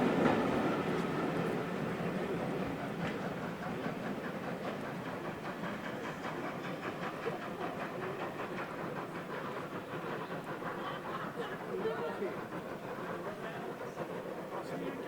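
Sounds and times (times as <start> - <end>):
train rumbling: 0.0 - 15.0
train wheels clicking: 0.0 - 15.0.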